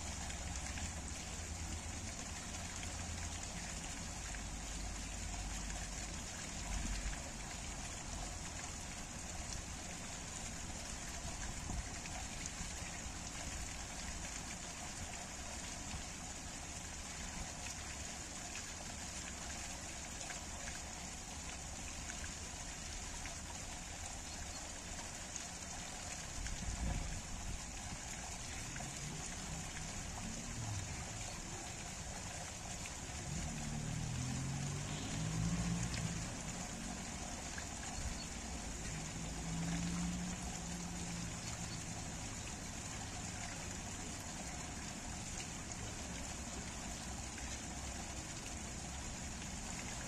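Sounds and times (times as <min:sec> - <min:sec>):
water pouring onto rocks: 0:00.0 - 0:50.0.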